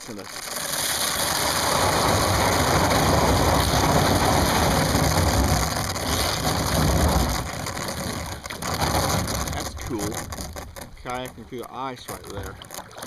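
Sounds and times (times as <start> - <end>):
kayak crunching through thin ice: 0.0 - 13.0.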